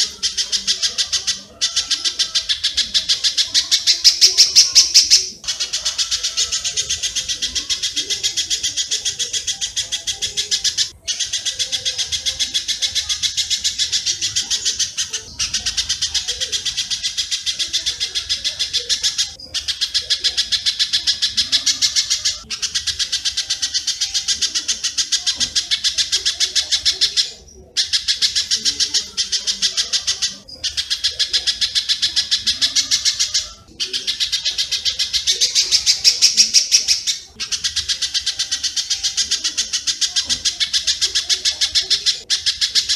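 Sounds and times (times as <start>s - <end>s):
birds chattering rapid high notes: 0.0s - 42.9s.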